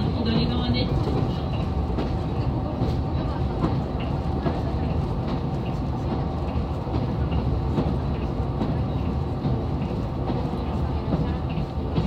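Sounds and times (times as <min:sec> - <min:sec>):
diesel railcar engine running: 0:00.0 - 0:12.0.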